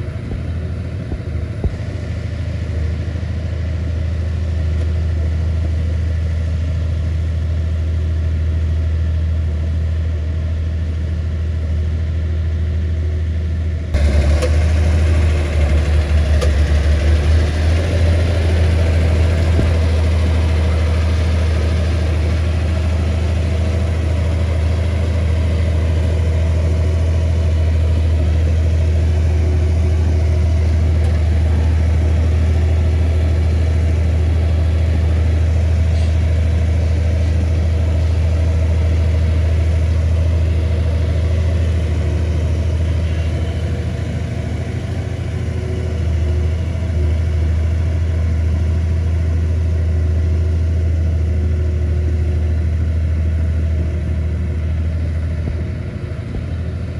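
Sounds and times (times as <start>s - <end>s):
bulldozer diesel engine droning: 0.0s - 56.9s.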